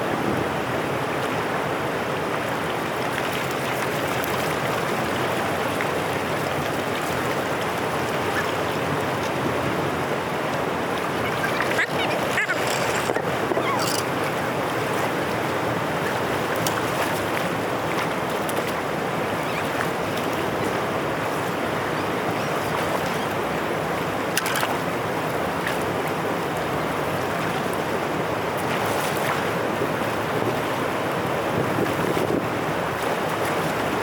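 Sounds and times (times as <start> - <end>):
water rushing through outlet: 2.6 - 34.0.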